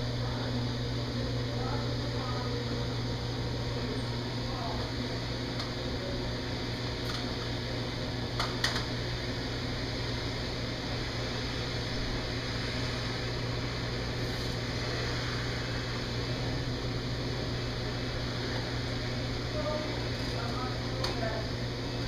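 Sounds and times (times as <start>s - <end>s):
machinery hum and hiss: 0.0s - 22.0s.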